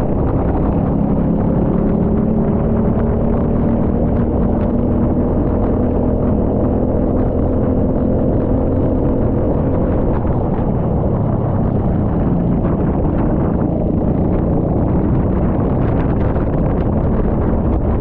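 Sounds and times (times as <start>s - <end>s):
kart engine droning: 0.0s - 18.0s.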